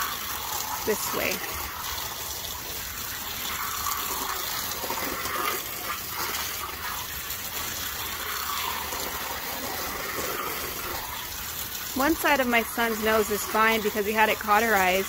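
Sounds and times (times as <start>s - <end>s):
garden hose spraying water: 0.0s - 15.0s.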